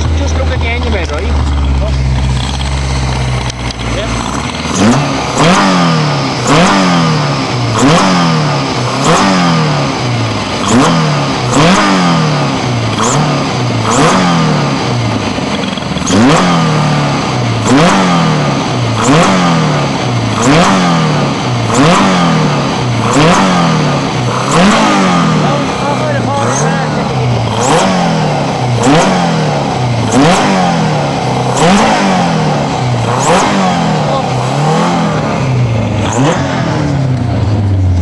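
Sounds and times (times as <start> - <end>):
race engine revving: 0.0 - 38.0.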